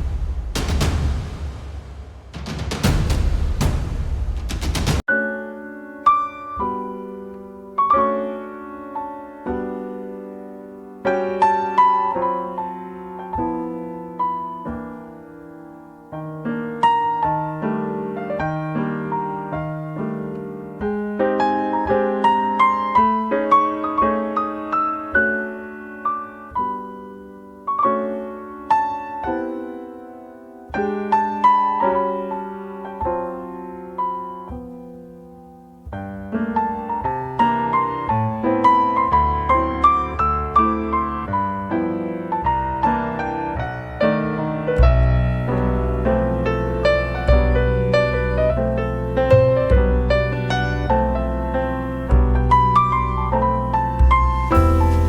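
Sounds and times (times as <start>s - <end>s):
slow piano chords: 5.0s - 55.0s.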